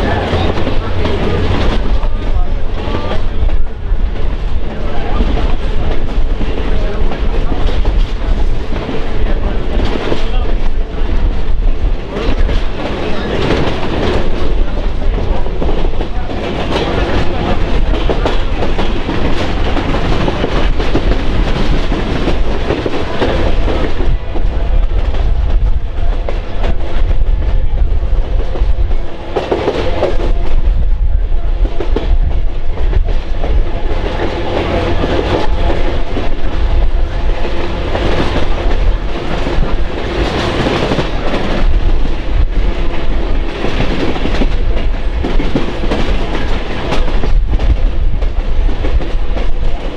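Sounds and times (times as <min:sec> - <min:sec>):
train low rumble: 0:00.0 - 0:49.9.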